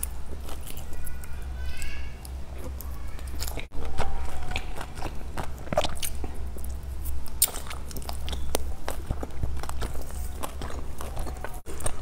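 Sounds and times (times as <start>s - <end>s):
close-miked chewing: 0.0s - 12.0s
steady low hum: 0.0s - 12.0s.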